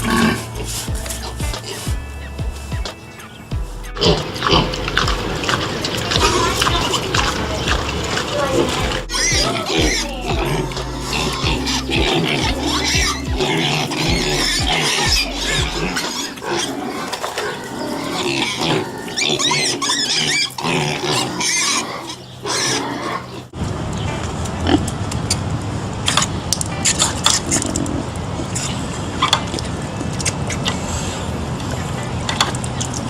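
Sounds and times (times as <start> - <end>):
pigs calling: 0.0 - 23.6, 26.1 - 33.0
noisy background: 0.0 - 33.0.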